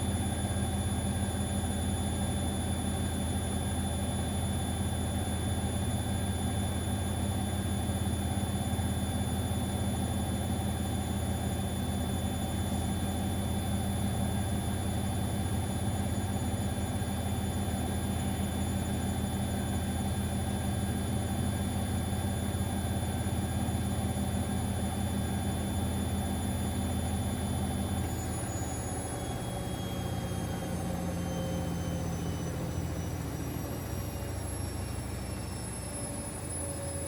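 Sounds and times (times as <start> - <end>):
washing machine spinning whine: 0.0 - 37.0.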